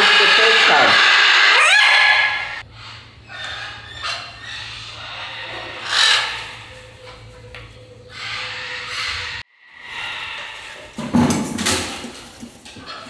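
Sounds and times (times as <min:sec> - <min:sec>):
parrots squawking: 0:00.0 - 0:11.8.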